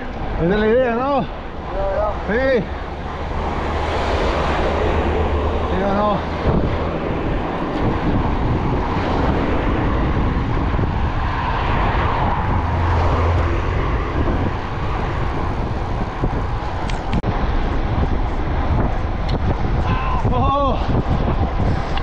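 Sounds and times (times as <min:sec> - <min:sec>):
bicycle road noise: 0:00.0 - 0:22.0
wind rushing on microphone: 0:00.0 - 0:22.0.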